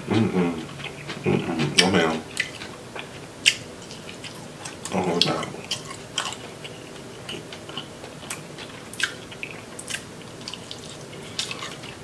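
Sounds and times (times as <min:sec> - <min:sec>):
wet chewing and lip smacking: 0:00.6 - 0:12.0.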